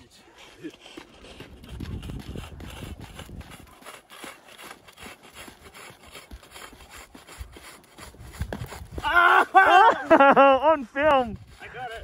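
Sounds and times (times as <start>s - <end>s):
jump rope slapping snow: 0.6s - 10.2s.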